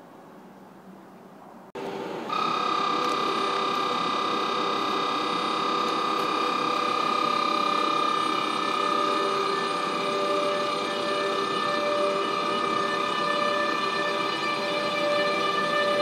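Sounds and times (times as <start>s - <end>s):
electric locomotive whine: 1.8s - 16.0s.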